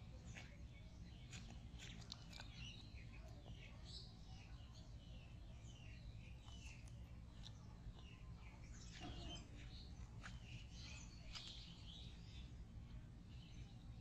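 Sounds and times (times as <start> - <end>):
low steady hum: 0.0 - 14.0
small birds chirping: 0.0 - 14.0.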